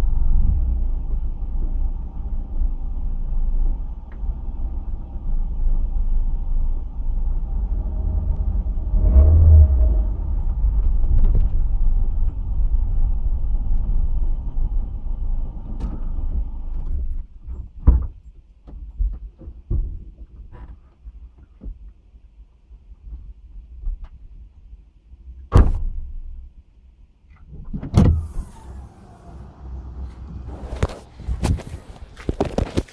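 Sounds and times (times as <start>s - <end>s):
car interior engine rumble: 0.0s - 32.9s.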